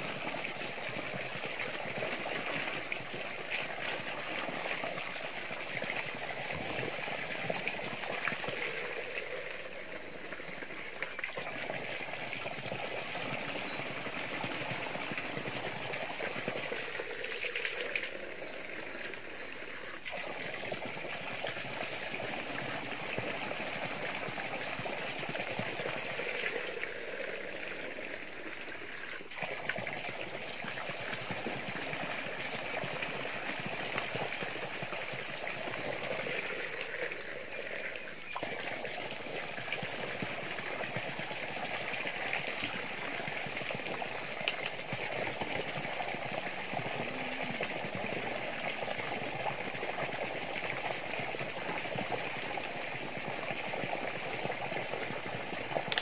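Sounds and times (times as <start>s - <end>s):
water pouring into a tank: 0.0s - 56.0s.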